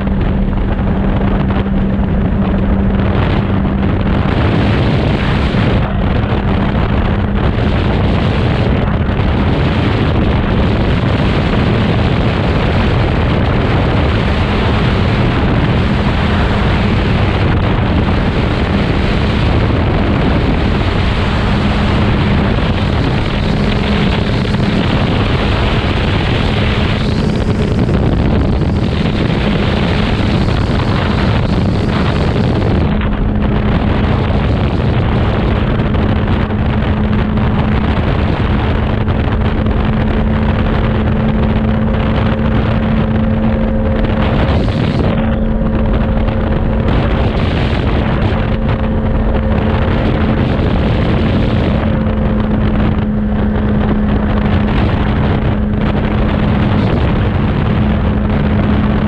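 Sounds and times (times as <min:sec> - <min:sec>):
light aircraft engine and propeller: 0:00.0 - 0:59.0
wind noise on microphone: 0:00.0 - 0:59.0.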